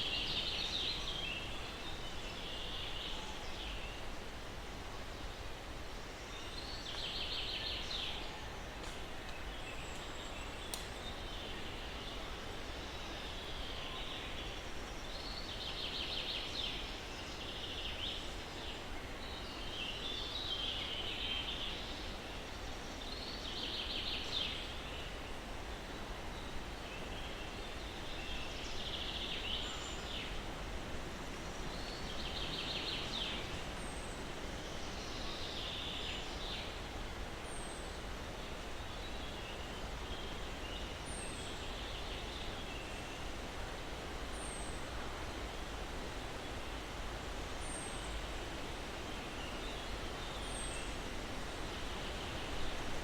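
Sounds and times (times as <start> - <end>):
breeze rustling through trees: 0.0 - 53.0.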